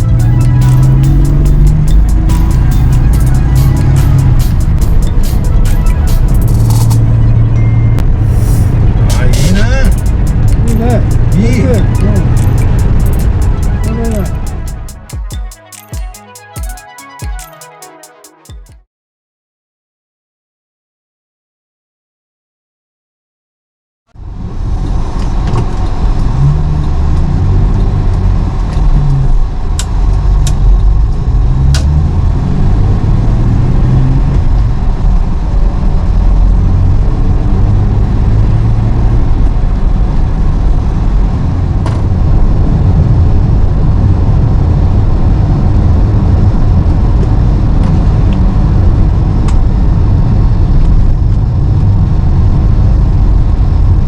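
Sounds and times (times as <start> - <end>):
car engine and road noise: 0.0 - 17.6, 24.1 - 54.0.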